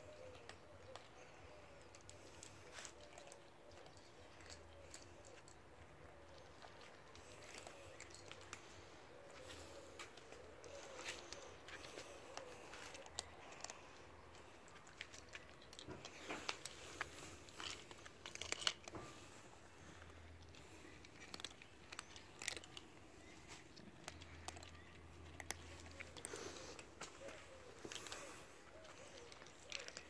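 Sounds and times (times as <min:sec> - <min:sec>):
cats crunching dry kibble: 0:00.0 - 0:30.0.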